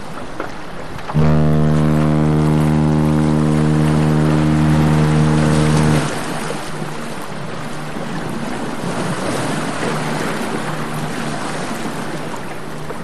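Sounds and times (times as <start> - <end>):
faint low hum: 1.1 - 13.0.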